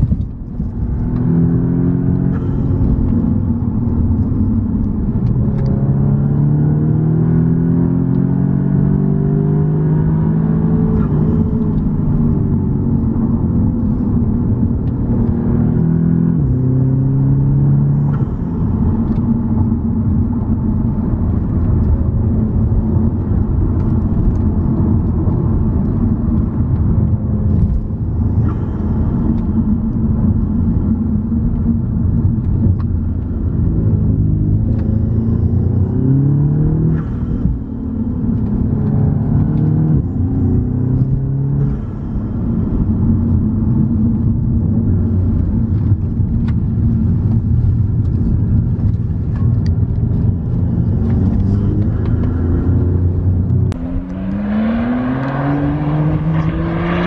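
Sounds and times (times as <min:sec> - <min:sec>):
car engine revving inside cabin: 0:00.0 - 0:57.0
engine accelerating heard from outside: 0:00.0 - 0:57.0.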